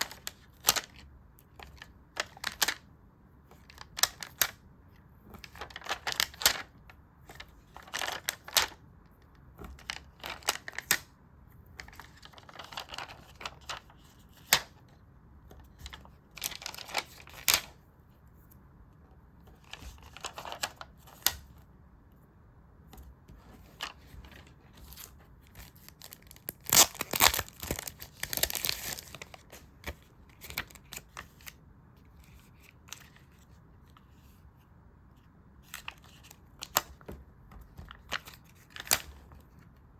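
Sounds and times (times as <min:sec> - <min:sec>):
paper rustling: 0:00.0 - 0:04.6, 0:05.2 - 0:11.1, 0:11.7 - 0:17.8, 0:19.5 - 0:21.6, 0:22.9 - 0:39.9.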